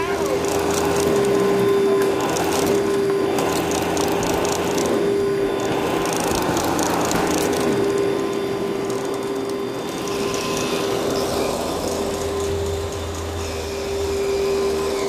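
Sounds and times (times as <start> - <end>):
nozzle scraping wooden floor: 0.0 - 15.0
vacuum cleaner whine: 0.0 - 15.0.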